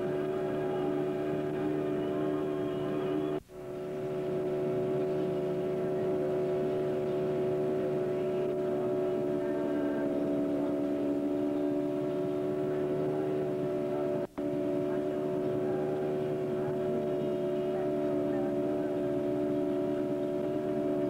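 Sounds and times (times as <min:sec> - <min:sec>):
motorboat engine droning: 0:00.0 - 0:21.0.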